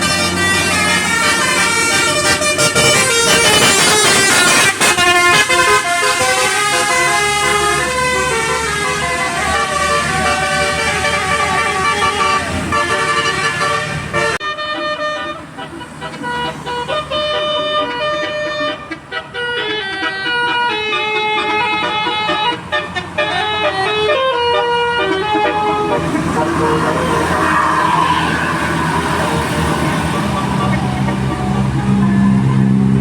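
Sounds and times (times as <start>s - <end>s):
bus engine running low: 0.0s - 33.0s
multi-tone bus horn melody: 0.0s - 33.0s.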